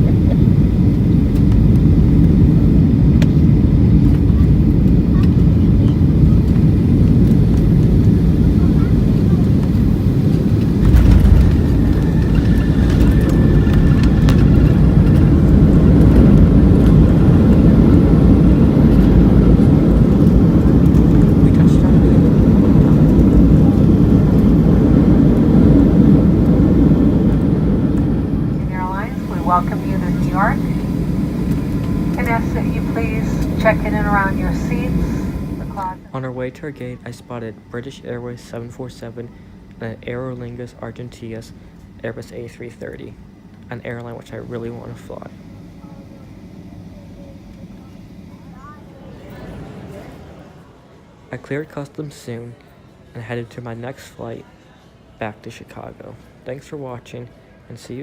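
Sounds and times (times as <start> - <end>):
airliner cabin engine rumble: 0.0 - 36.1, 37.0 - 50.6.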